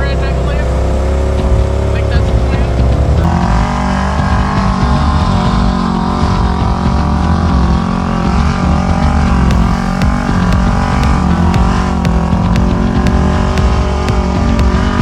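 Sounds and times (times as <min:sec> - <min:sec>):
utv engine running: 0:00.0 - 0:15.0.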